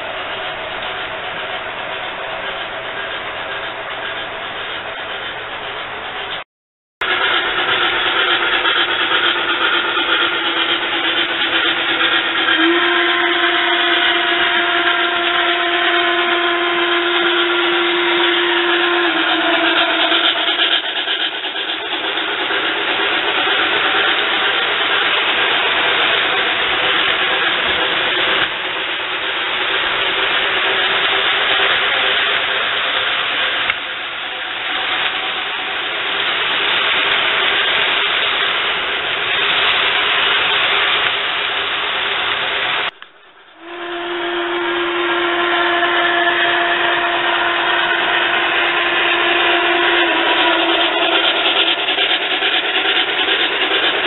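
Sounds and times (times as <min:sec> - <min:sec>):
model train wheels rolling: 0:00.0 - 0:06.4, 0:07.0 - 0:54.0
steam hiss: 0:00.0 - 0:06.4, 0:07.0 - 0:54.0.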